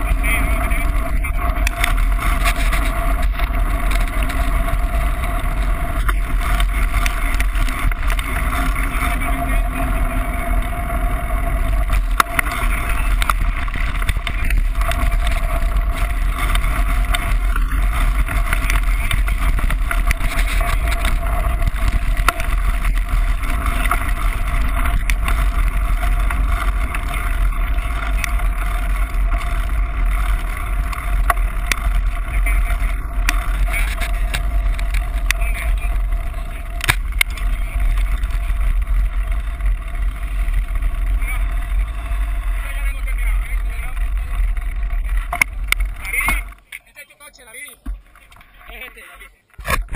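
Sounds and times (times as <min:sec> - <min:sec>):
wind buffeting microphone: 0:00.0 - 0:46.7
bike clicks and rattles: 0:00.0 - 0:46.9, 0:47.8 - 0:49.9
bike tyres rolling on pavement: 0:00.0 - 0:49.9.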